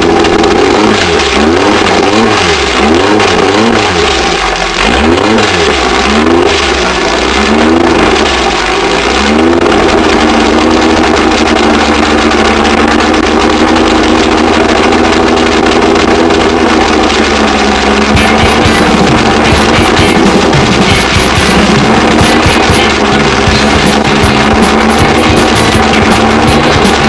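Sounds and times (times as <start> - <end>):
engine revving and running: 0.0 - 27.0.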